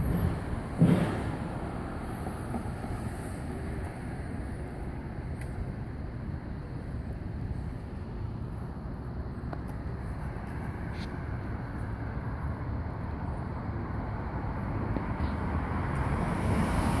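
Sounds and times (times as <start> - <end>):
low outdoor background rumble: 0.0 - 17.0.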